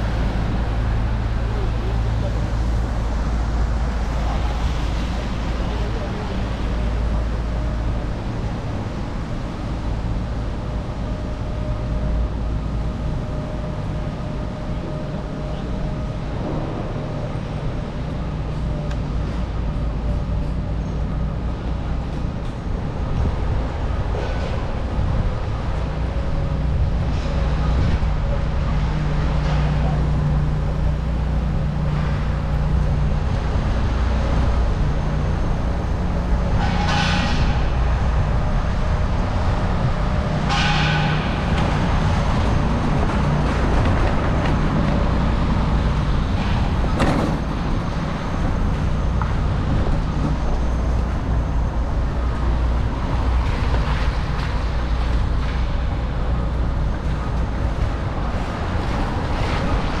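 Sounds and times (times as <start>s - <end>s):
city traffic noise: 0.0s - 60.0s.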